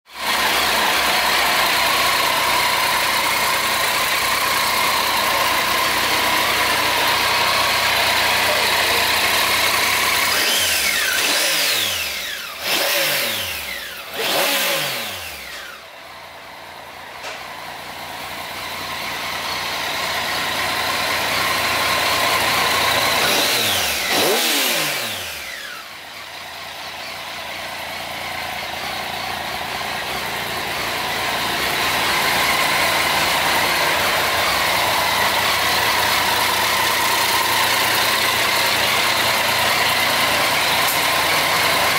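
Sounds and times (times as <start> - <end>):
motorcycle engine idling and revving: 0.1 - 41.9.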